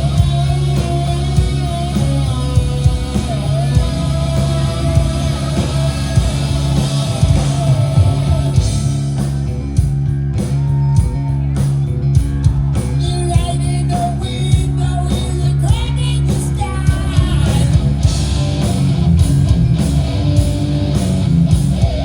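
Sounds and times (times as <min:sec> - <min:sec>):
rock music with guitar: 0:00.0 - 0:22.0.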